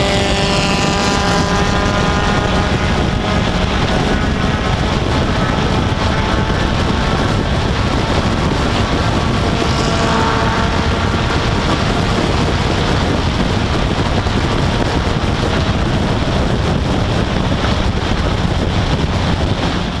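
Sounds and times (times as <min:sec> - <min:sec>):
sports car engine running: 0:00.0 - 0:20.0
wind rushing over microphone: 0:00.0 - 0:20.0.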